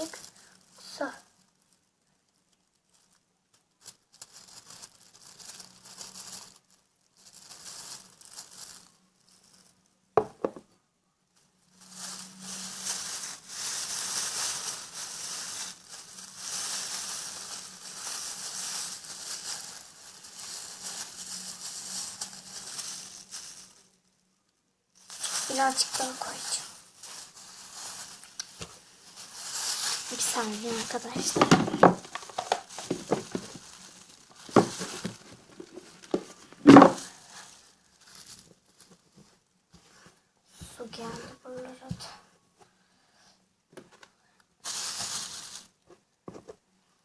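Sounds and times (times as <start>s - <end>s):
plastic bag crinkling: 0.0s - 10.6s, 11.5s - 24.1s, 25.0s - 39.4s, 44.6s - 45.8s.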